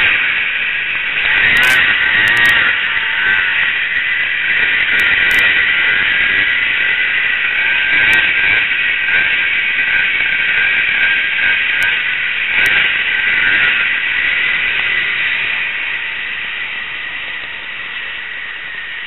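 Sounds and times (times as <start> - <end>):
snowmobile engine droning: 0.0 - 19.0.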